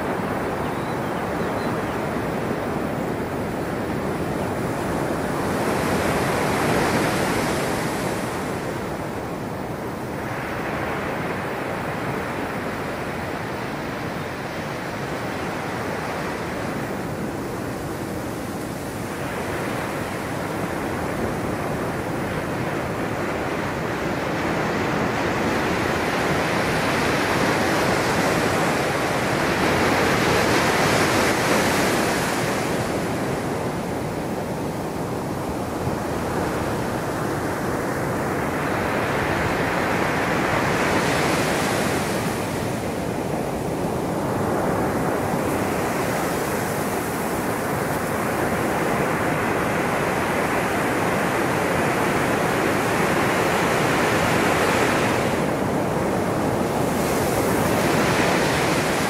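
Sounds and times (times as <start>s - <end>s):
ocean waves breaking on a beach: 0.0s - 59.0s.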